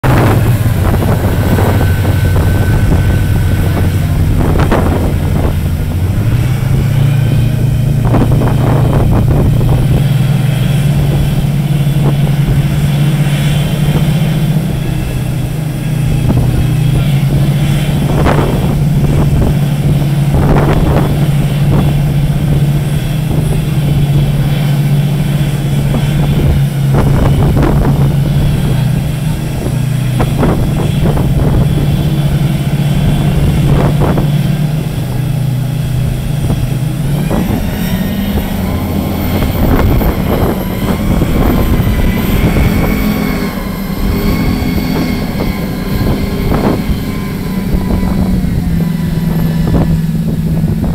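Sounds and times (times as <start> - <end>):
ship engine drone: 0.0 - 50.9
water rushing along hull: 0.0 - 50.9
wind gusts on microphone: 0.0 - 50.9.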